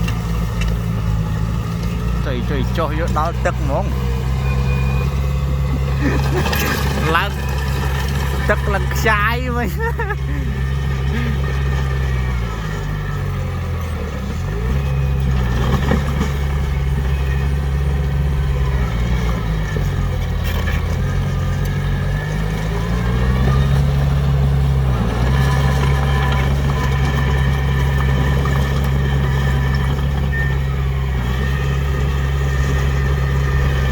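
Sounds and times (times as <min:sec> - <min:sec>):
heavy diesel engine under load: 0:00.0 - 0:33.9.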